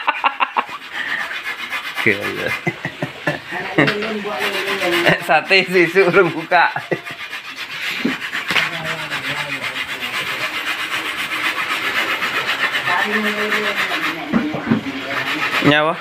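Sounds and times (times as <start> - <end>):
coconut grating rasps: 0.1 - 16.0.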